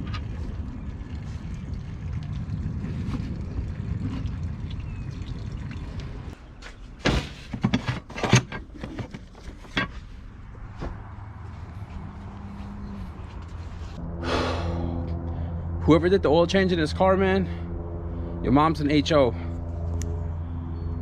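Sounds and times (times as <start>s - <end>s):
low rumble: 0.0s - 6.4s, 10.5s - 21.0s.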